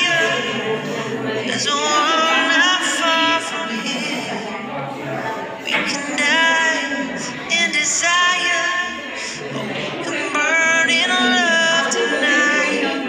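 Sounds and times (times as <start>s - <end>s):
high voice singing: 0.0s - 13.0s.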